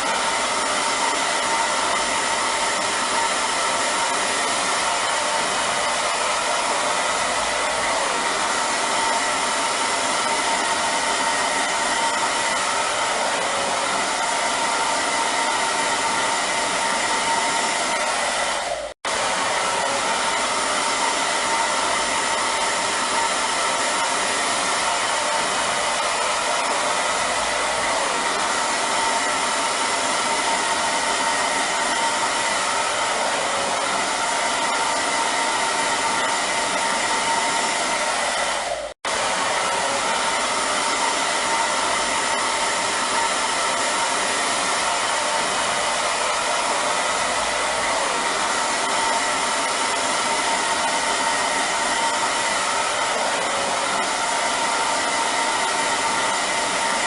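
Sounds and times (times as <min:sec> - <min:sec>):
hair dryer blowing air: 0:00.0 - 0:57.0.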